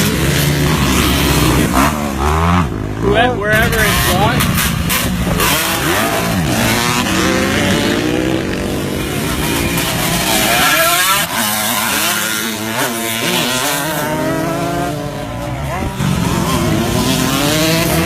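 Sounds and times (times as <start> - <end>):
bike engine climbing in pitch: 0.0 - 18.0
motocross bikes revving: 0.0 - 18.0.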